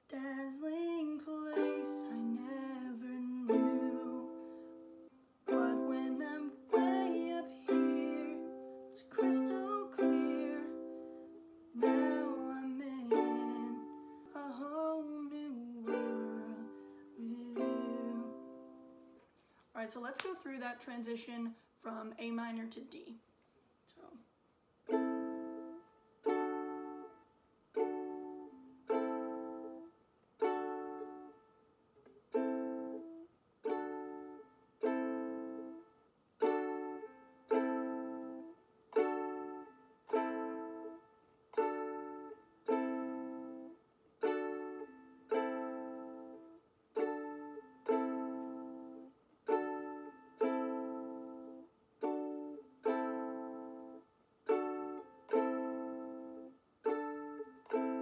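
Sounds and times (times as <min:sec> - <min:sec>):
ukulele chords strummed: 0:01.4 - 0:19.2, 0:24.9 - 0:58.0.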